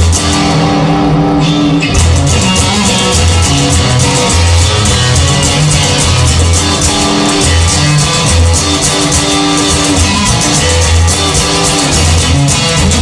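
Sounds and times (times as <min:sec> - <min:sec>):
drums and cymbals: 0:00.0 - 0:13.0
guitar-led rock music: 0:00.0 - 0:13.0.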